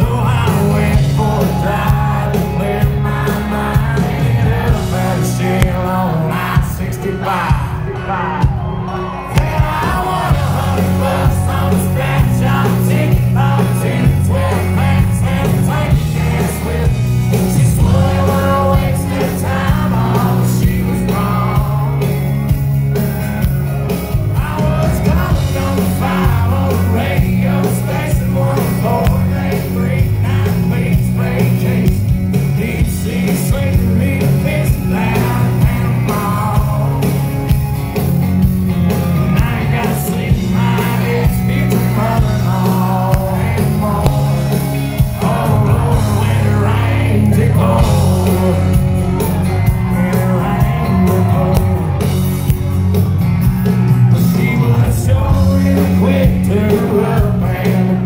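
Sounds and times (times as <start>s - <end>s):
man singing: 0.0s - 37.7s, 38.9s - 52.2s, 54.0s - 58.0s
acoustic guitar: 0.0s - 58.0s
electric bass: 0.0s - 58.0s.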